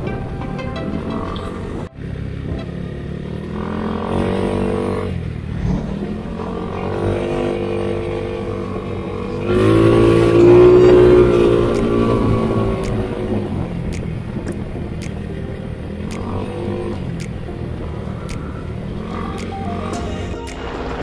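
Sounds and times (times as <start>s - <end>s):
scooter engine running: 0.9s - 20.2s.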